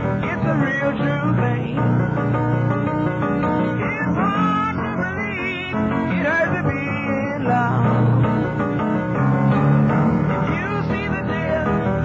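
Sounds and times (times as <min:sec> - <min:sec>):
solo piano chords: 0:00.0 - 0:12.0.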